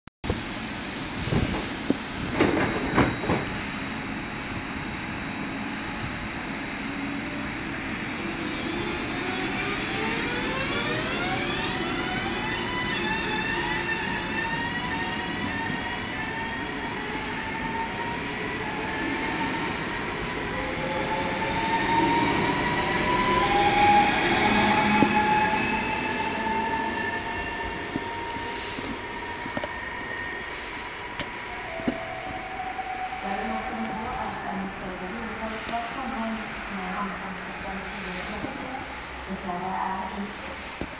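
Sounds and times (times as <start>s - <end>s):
wheels rumbling on rail: 0.2s - 13.3s, 17.0s - 40.9s
electric train motors whining: 0.3s - 40.9s.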